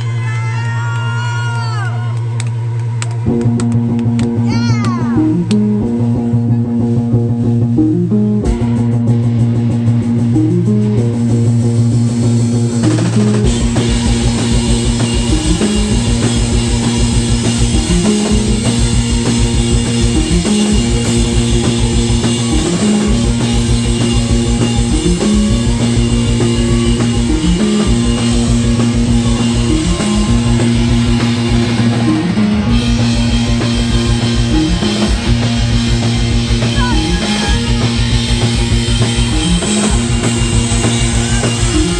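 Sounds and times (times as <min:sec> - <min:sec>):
bass and guitar riff: 0:00.0 - 0:41.9
drums: 0:00.0 - 0:41.9.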